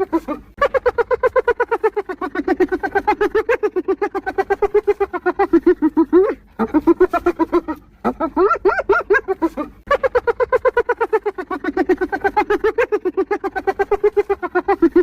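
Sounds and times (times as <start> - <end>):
hyena giggling whoops: 0.0 - 15.0.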